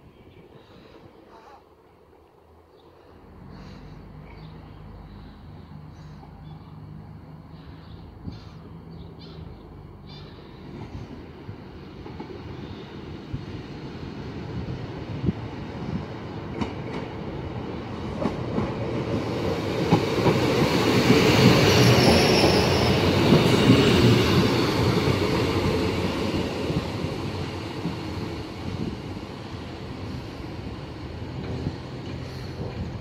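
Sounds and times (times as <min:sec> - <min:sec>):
train engine and wheels rumbling: 0:00.0 - 0:33.0.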